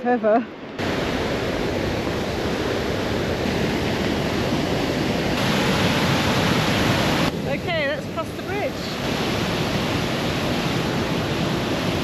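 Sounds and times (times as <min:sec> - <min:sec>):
mountain stream rushing: 0:00.7 - 0:12.0.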